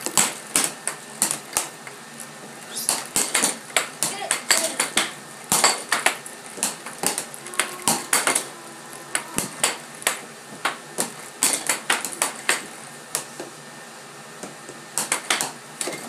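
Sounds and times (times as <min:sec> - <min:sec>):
air hockey puck clacking: 0:00.0 - 0:01.8, 0:02.8 - 0:08.5, 0:09.1 - 0:13.5, 0:14.4 - 0:16.0.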